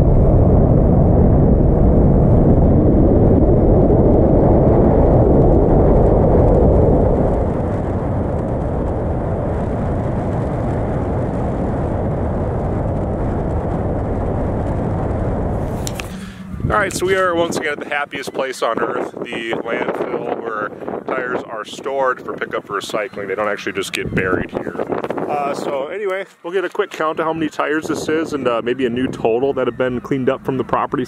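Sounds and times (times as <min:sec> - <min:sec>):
wind rush from driving vehicle: 0:00.0 - 0:26.0.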